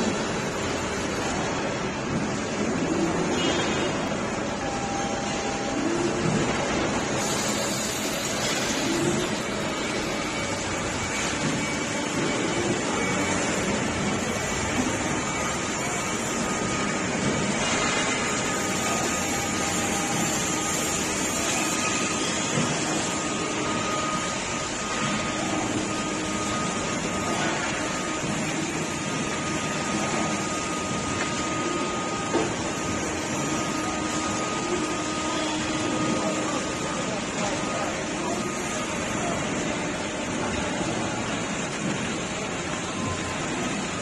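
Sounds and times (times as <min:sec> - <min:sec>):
whirring machine noise: 0:00.0 - 0:44.0.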